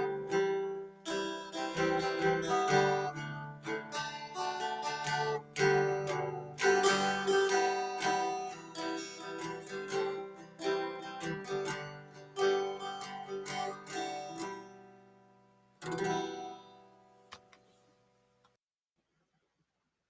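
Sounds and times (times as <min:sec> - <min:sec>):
guitar chord strummed: 0:00.0 - 0:15.2, 0:15.8 - 0:17.0
acoustic guitar plucking: 0:00.0 - 0:17.5.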